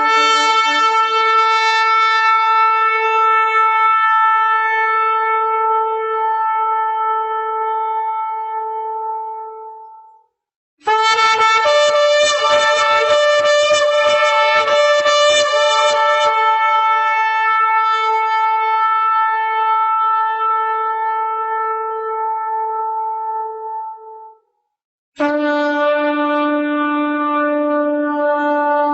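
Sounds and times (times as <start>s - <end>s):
ram's horn blowing: 0.0s - 10.2s, 10.8s - 24.4s.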